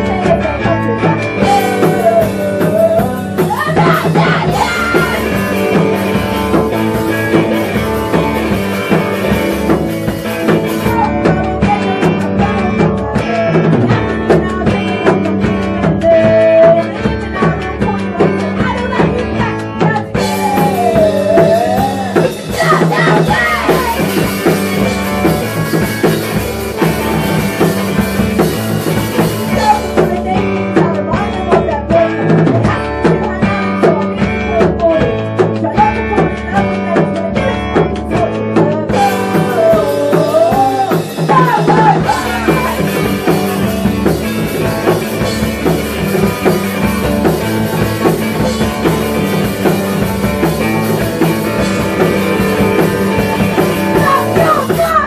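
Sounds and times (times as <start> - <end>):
drum kit playing: 0.0 - 55.0
electric guitars: 0.0 - 55.0.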